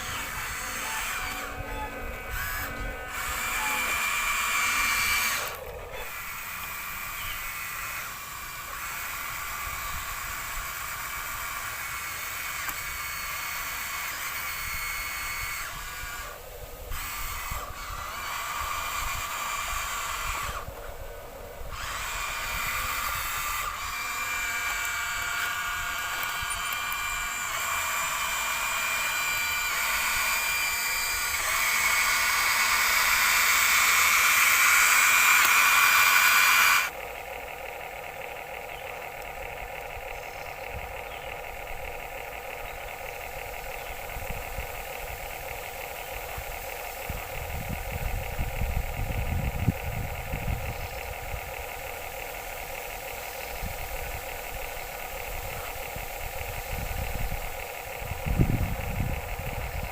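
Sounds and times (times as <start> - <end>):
toy electric motors whining: 0.0 - 59.9.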